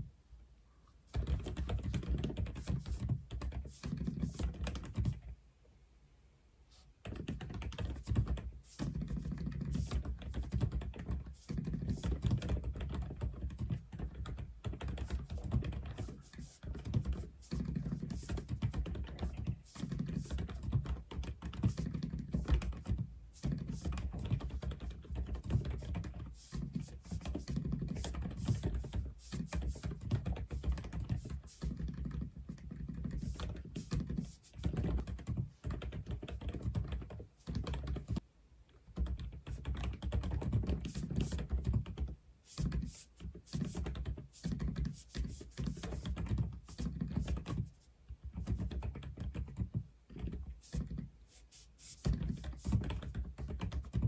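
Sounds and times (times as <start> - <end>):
mechanical keyboard typing: 1.2 - 5.2, 7.0 - 38.2, 38.9 - 47.7, 48.3 - 51.0, 52.0 - 54.0.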